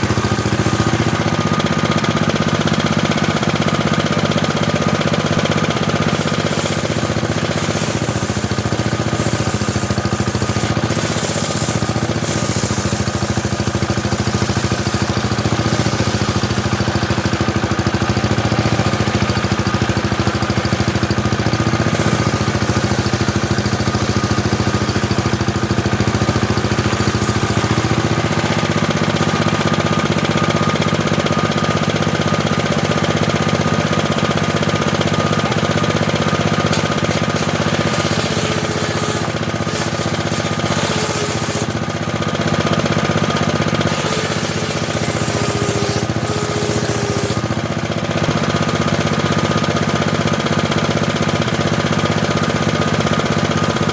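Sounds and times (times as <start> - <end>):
saw blade cutting wood: 0.0 - 48.4
table saw running: 0.0 - 53.9.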